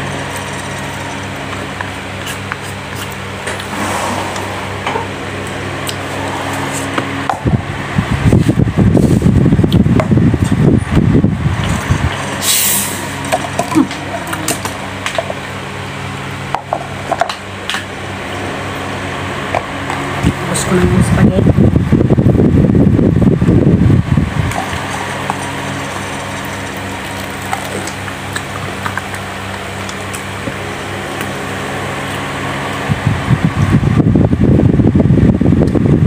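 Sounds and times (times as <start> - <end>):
steady background hum: 0.0 - 36.0
low rumble: 3.2 - 36.0.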